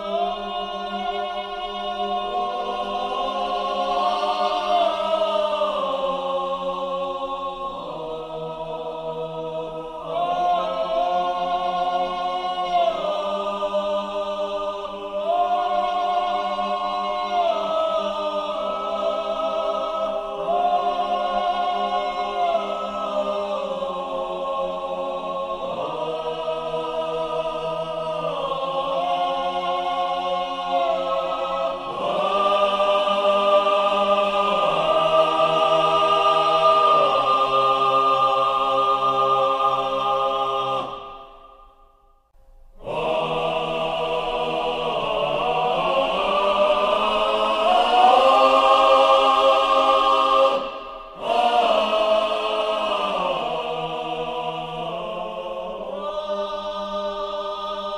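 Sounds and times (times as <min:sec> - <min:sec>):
choir singing sustained chords: 0:00.0 - 0:57.9.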